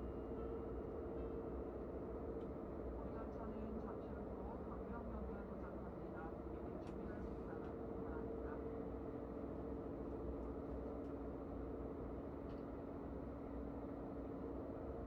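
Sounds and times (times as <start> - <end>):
train rumble from inside: 0.1 - 15.0.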